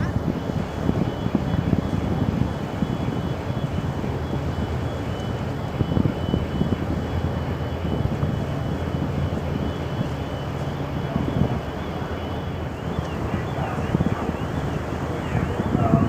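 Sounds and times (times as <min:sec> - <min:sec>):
low engine drone: 0:00.0 - 0:16.0
wind gusting on microphone: 0:00.0 - 0:16.0.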